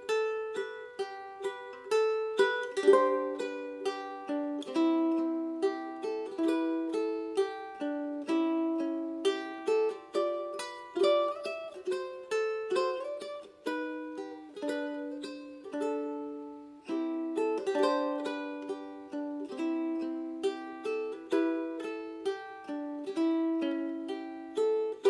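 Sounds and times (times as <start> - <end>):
fingerstyle ukulele: 0.0 - 25.0.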